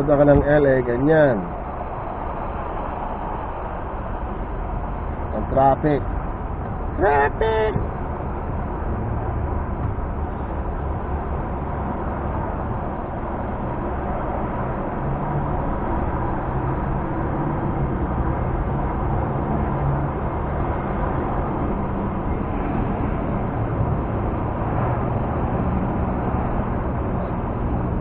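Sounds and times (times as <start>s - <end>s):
freeway traffic noise: 0.0s - 28.0s.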